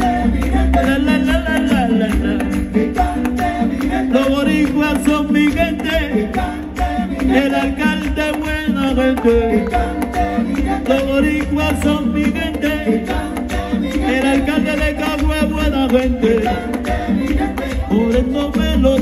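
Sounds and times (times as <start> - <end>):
bass line: 0.0 - 19.0
hand drums and percussion: 0.0 - 19.0
men singing together: 0.0 - 19.0.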